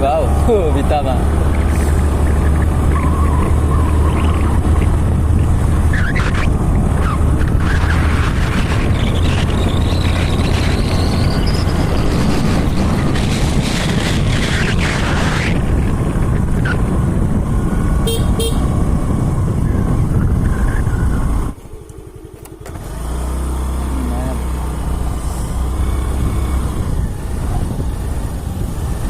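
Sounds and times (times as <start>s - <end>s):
wind buffeting microphone: 0.0s - 23.2s, 24.5s - 29.0s.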